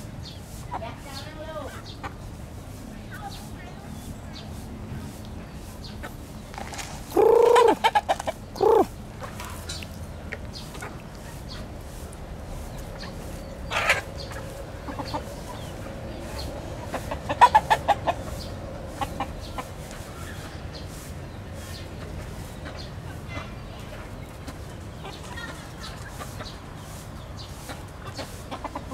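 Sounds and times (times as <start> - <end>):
chickens clucking: 0.0 - 28.9.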